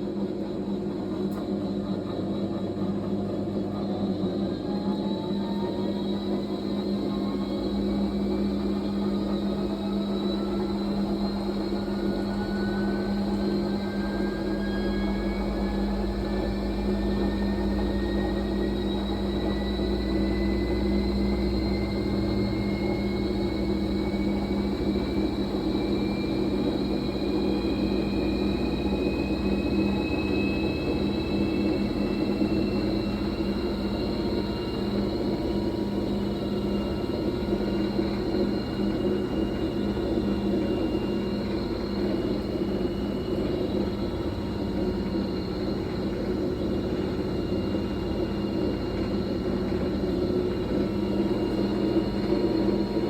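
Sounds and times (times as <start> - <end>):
faint high whine: 0.0 - 53.0
washing machine spinning: 0.0 - 53.0.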